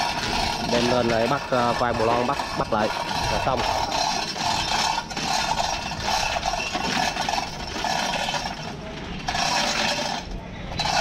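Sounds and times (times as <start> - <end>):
machine droning: 0.0 - 11.0
metal chain rattling and scraping: 0.0 - 11.0.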